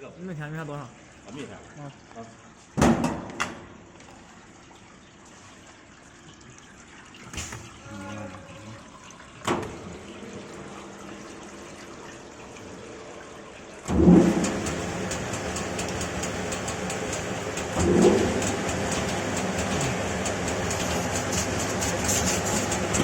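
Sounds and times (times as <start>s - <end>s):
water running: 0.0s - 23.0s.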